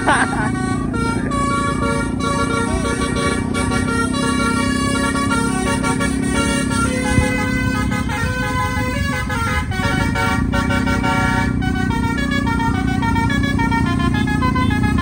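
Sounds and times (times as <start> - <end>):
air horn playing melody: 0.0 - 15.0
low engine rumble: 0.0 - 15.0.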